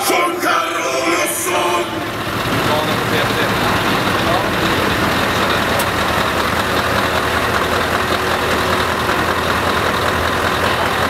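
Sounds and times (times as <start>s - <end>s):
truck diesel engine idling: 0.0s - 11.0s.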